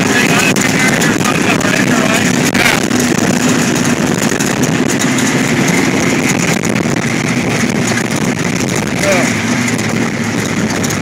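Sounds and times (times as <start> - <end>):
dune buggy engine: 0.0 - 11.0
rattles and knocks: 0.0 - 11.0.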